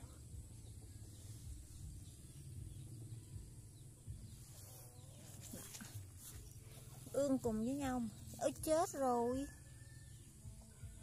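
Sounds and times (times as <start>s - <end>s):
low steady rumble: 0.0s - 10.6s.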